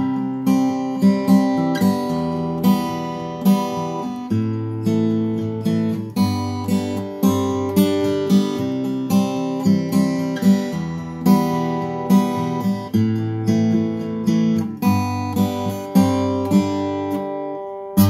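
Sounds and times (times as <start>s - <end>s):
acoustic guitar chords strummed: 0.0s - 18.0s.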